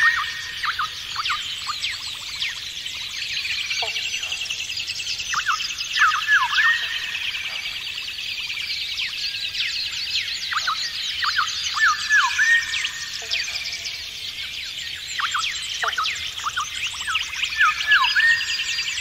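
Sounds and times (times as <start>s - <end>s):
birds twittering chorus: 0.0s - 19.0s.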